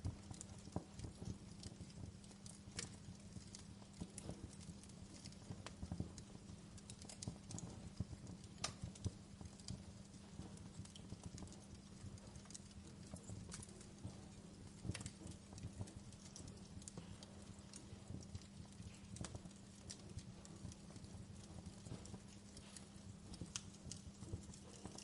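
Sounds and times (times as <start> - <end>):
low steady fire rumble: 0.0 - 25.0
wood fire crackling and popping: 0.0 - 25.0.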